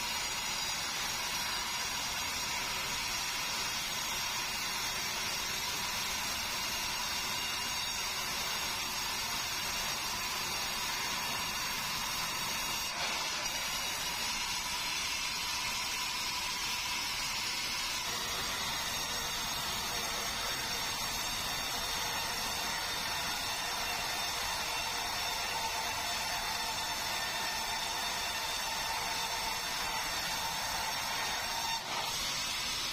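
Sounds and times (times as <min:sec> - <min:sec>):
band saw cutting wood: 0:00.0 - 0:32.9.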